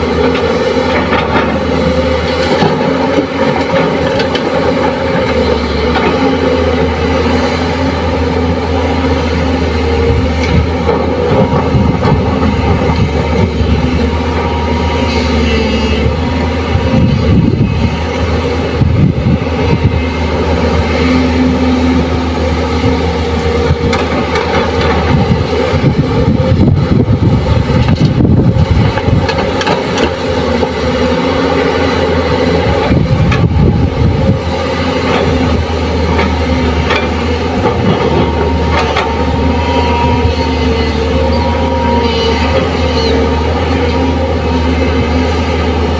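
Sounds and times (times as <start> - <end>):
excavator diesel engine droning: 0.0 - 45.9.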